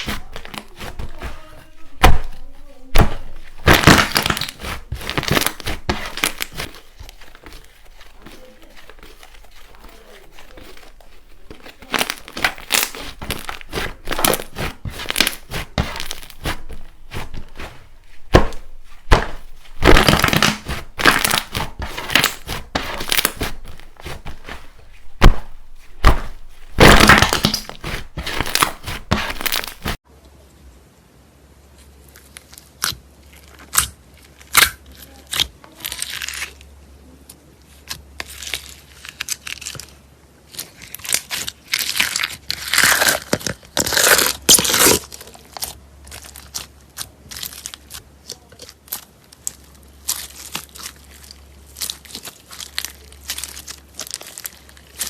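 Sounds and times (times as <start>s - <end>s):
slime crackling and popping: 0.0s - 30.0s, 40.5s - 55.0s.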